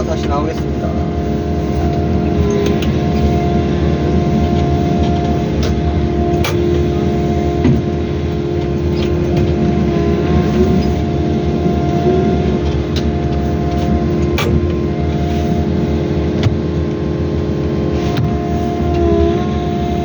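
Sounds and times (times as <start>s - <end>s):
diesel engine under load: 0.0s - 20.0s
excavator scraping soil: 0.0s - 20.0s.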